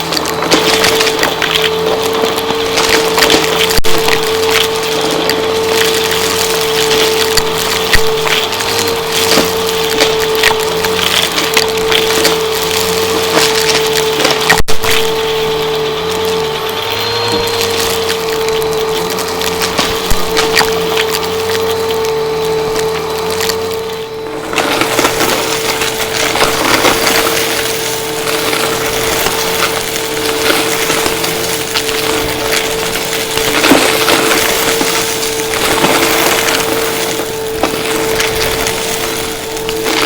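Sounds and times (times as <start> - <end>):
debris crackling through vacuum: 0.0 - 40.0
vacuum cleaner motor whine: 0.0 - 40.0.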